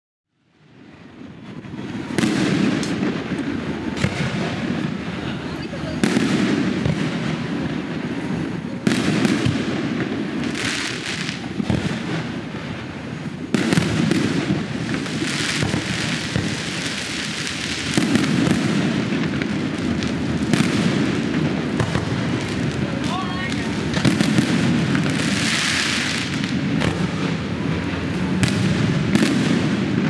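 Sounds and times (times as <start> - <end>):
fireworks bangs and crackling: 0.5 - 30.0.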